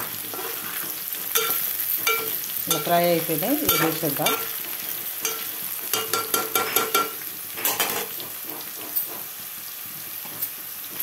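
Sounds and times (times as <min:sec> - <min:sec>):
metal spatula scraping a pan: 0:00.0 - 0:09.3
vegetables sizzling in hot oil: 0:00.0 - 0:11.0.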